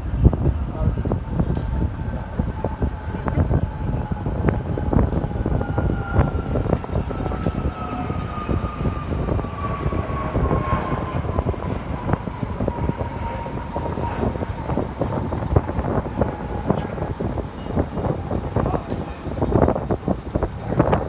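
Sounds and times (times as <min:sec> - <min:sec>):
jet aircraft engine whine: 0:00.0 - 0:21.0
wind buffeting on microphone: 0:00.0 - 0:21.0.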